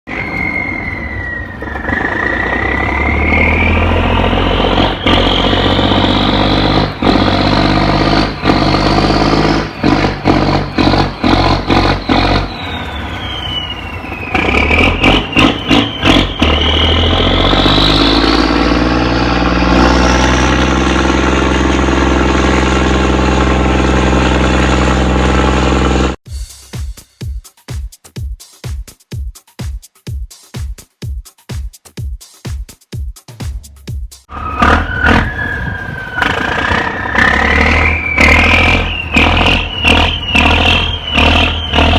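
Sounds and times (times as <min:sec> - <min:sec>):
diesel boat engine running hard: 0:00.1 - 0:26.2, 0:34.3 - 0:41.9
engine high whine: 0:00.1 - 0:26.2, 0:34.3 - 0:41.9.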